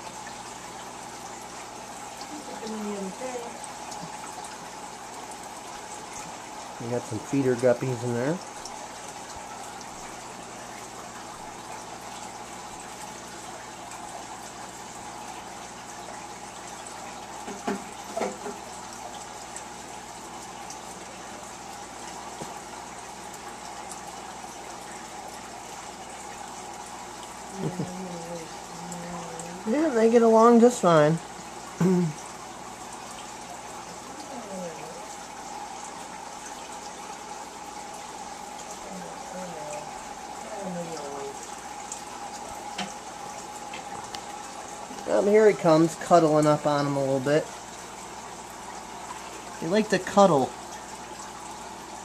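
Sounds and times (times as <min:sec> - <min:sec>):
aquarium filter water splashing: 0:00.0 - 0:52.0.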